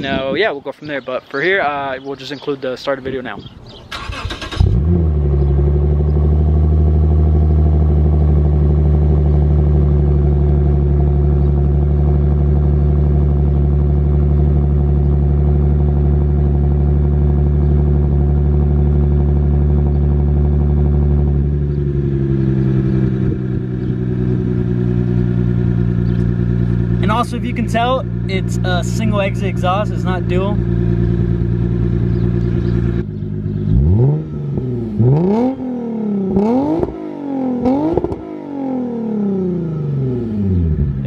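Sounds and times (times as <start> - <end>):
car engine starting and idling: 3.4 - 41.0.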